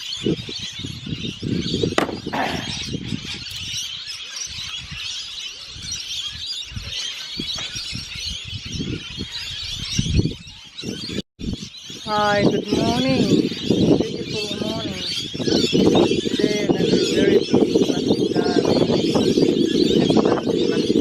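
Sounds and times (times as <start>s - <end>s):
parrots chirping and screeching: 0.0s - 21.0s
wind buffeting microphone: 0.0s - 21.0s.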